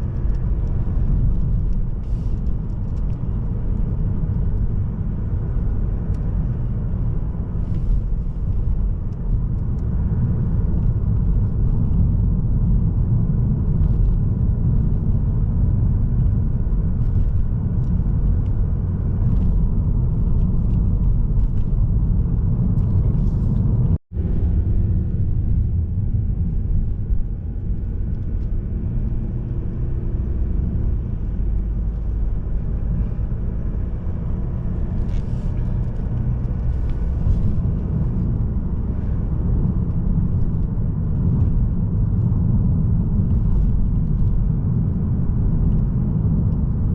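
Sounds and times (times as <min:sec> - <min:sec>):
road and engine rumble: 0:00.0 - 0:46.9.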